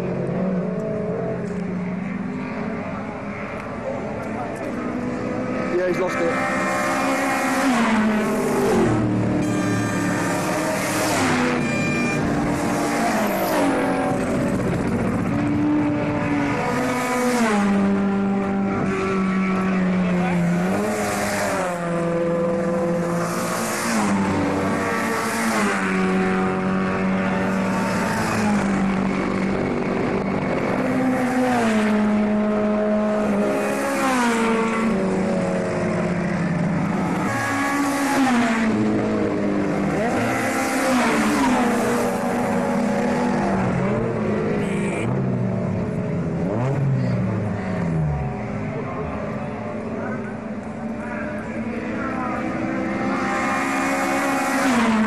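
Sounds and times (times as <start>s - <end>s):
racing cars passing: 0.0s - 55.0s.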